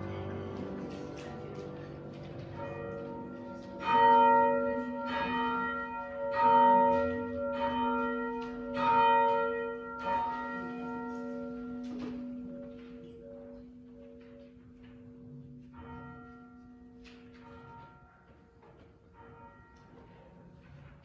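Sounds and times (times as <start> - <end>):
church bell ringing: 0.0 - 20.8.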